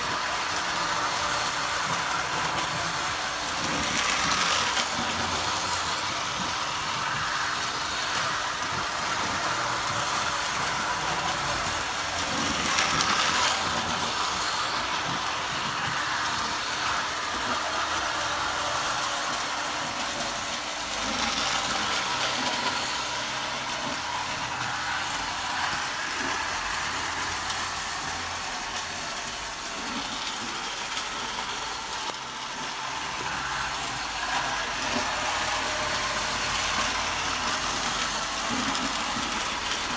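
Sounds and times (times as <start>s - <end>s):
toy train motor whirring: 0.0s - 39.9s
toy train wheels rattling on rails: 0.0s - 39.9s.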